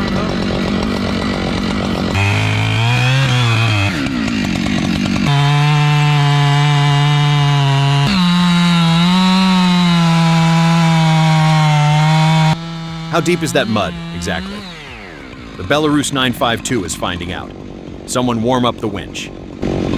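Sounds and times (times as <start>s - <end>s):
chainsaw cutting wood: 0.0s - 19.9s.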